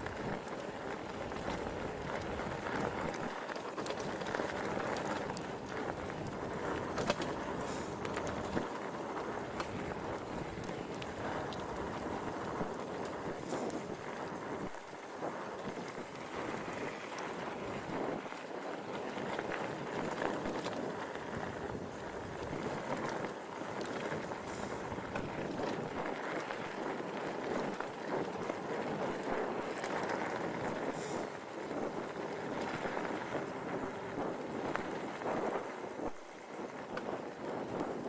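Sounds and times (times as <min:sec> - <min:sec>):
bike rattling and ticking: 0:00.0 - 0:38.0
bike tyres rumbling on dirt: 0:00.0 - 0:38.0.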